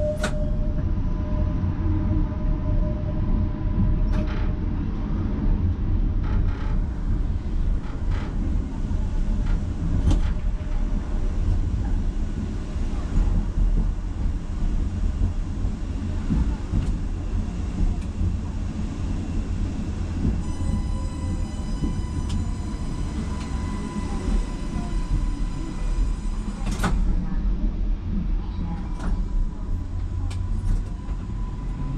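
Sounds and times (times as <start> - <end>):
tram rumbling on rails: 0.0 - 31.9.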